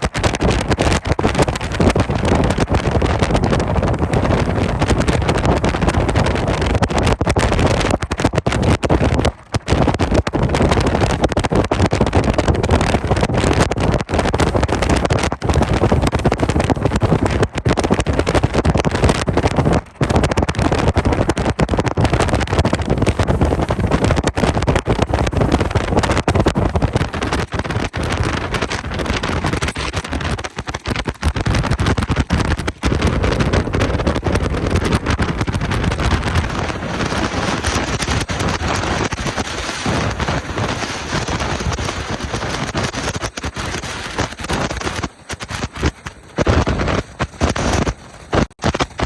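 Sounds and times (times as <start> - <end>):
strong wind buffeting microphone: 0.0 - 49.0.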